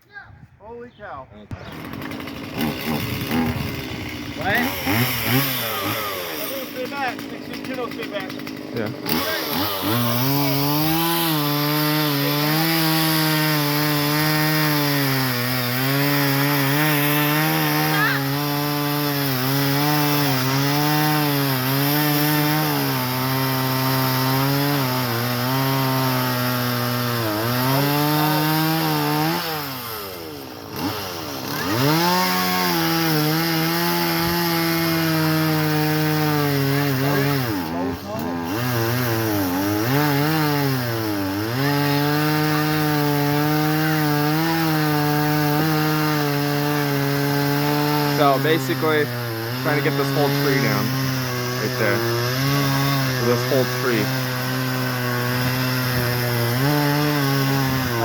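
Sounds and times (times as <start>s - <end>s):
chainsaw cutting into a tree: 1.5s - 58.0s.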